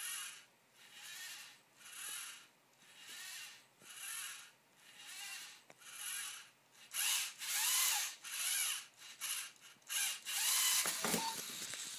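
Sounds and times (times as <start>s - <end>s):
small electric motors whirring: 0.0s - 11.9s.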